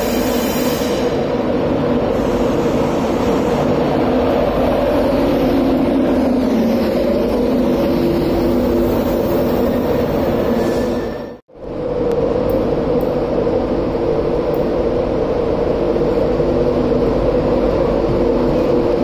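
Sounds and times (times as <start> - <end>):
train passing with loud hum: 0.0 - 19.0.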